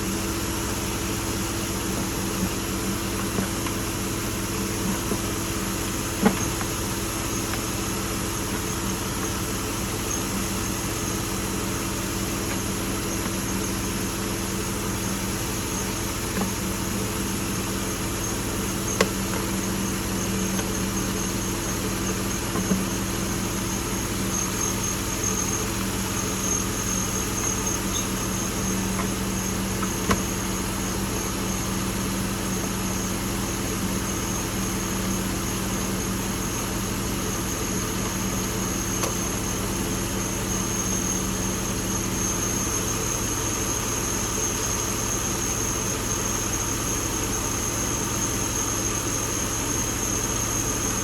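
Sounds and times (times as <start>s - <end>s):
car engine idling: 0.0s - 51.0s
steady high whine: 0.0s - 51.0s.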